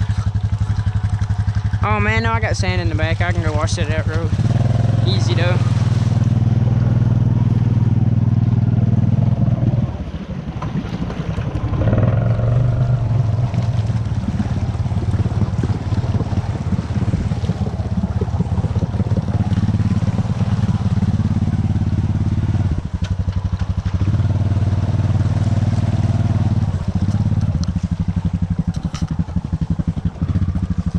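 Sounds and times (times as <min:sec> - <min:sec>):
four-wheeler engine running: 0:00.0 - 0:30.9.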